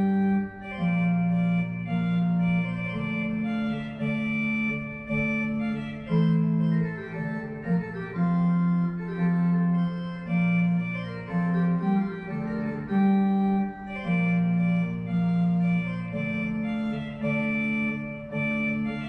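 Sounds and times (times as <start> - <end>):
slow organ music: 0.0 - 19.0.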